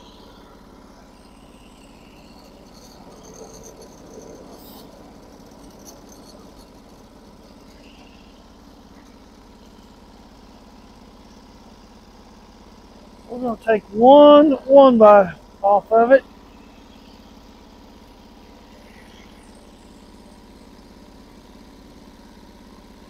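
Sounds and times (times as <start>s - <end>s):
sawmill engine idling: 0.0s - 23.0s.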